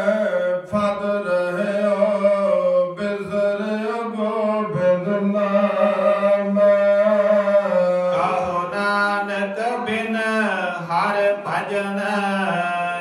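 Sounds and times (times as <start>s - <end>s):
man singing long notes: 0.0s - 13.0s.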